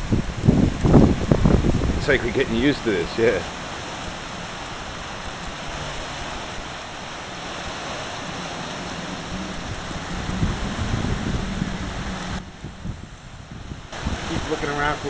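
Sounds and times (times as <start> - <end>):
wind and rain rushing: 0.0 - 15.0
wind gusts buffeting microphone: 0.0 - 15.0.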